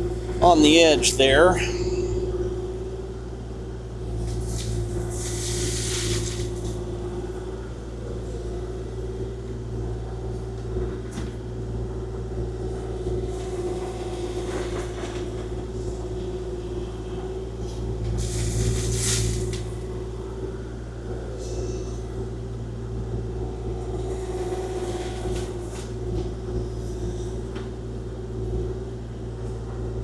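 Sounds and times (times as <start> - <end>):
diesel engine running with whine: 0.0 - 30.0.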